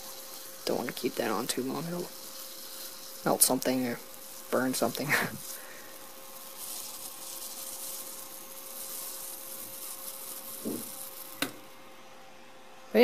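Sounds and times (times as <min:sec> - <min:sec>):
faint steady hum: 0:00.0 - 0:13.0
water boiling and sizzling: 0:00.0 - 0:13.0.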